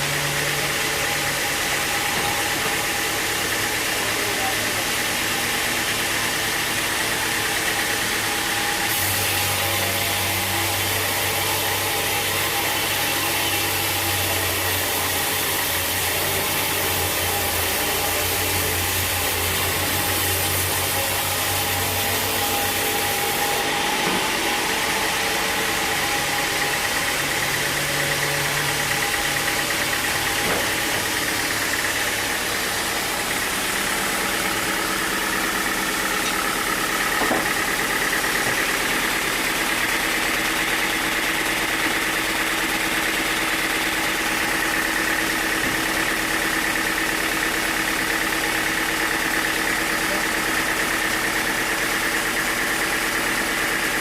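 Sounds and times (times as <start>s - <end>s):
sawmill machinery engine hum: 0.0s - 54.0s
dense hiss of sawmill machinery: 0.1s - 54.0s.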